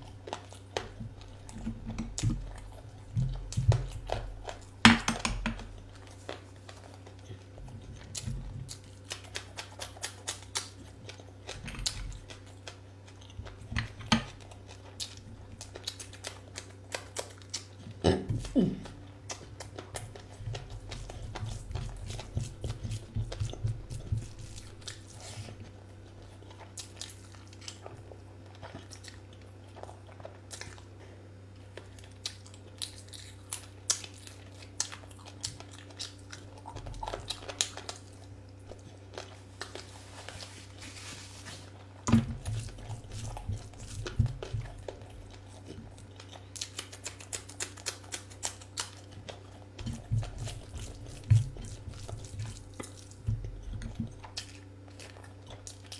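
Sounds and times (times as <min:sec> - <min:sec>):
person chewing and smacking: 0:00.0 - 0:55.9.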